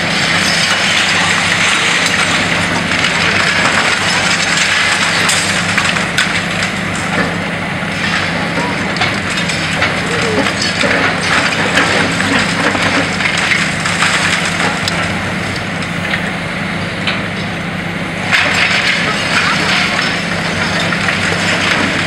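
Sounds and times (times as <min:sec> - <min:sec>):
concrete cracking and crunching: 0:00.0 - 0:16.3, 0:18.2 - 0:22.0
falling rubble: 0:00.0 - 0:16.3, 0:18.2 - 0:22.0
diesel engine running: 0:00.0 - 0:22.0.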